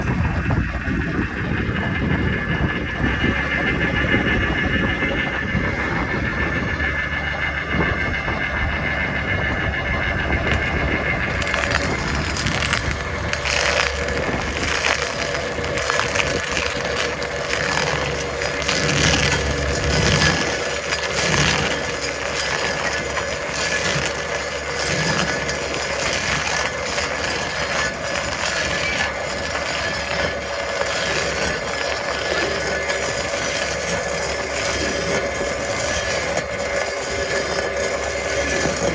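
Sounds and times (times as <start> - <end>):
stump grinder running: 0.0 - 38.9
wood grinding and crunching: 0.0 - 38.9.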